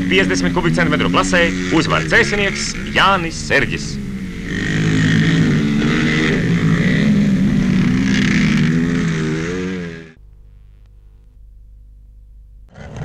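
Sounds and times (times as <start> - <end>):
motorcycle engines revving: 0.0 - 10.2, 12.7 - 13.0.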